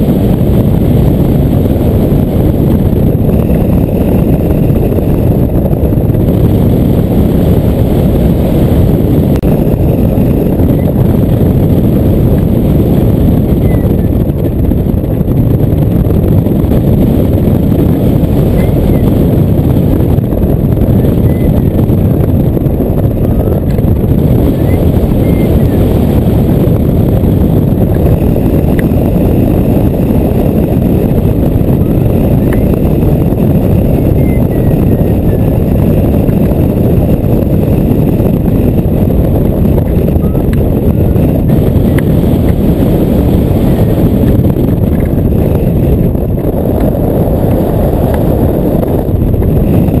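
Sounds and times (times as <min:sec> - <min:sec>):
wind rumbling on microphone: 0:00.0 - 0:50.0.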